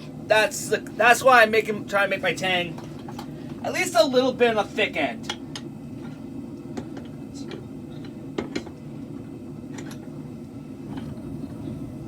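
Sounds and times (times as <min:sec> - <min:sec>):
forge burner rushing: 0:00.0 - 0:12.0.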